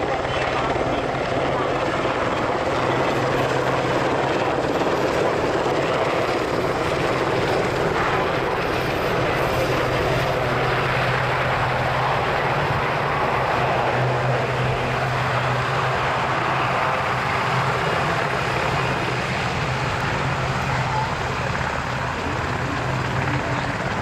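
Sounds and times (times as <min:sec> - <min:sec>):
propeller planes droning in flight: 0:00.0 - 0:24.0.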